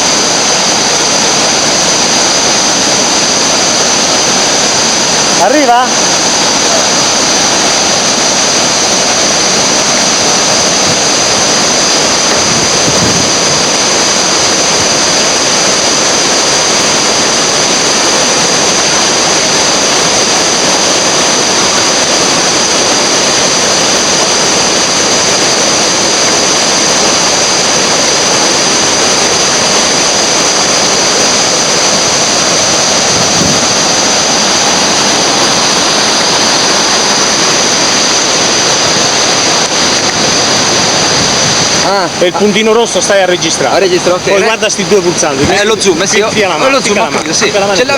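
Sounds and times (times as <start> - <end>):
river rapids rushing: 0.0 - 47.9.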